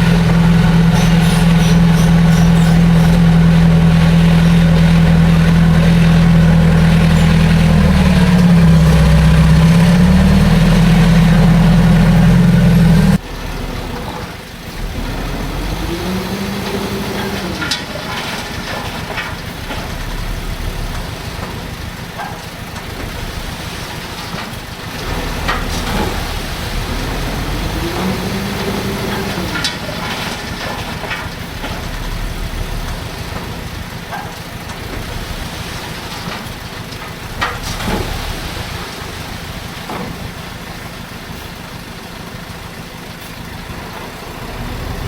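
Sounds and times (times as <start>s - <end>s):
diesel engine revving: 0.0s - 45.0s
heavy diesel engine running: 0.0s - 45.0s.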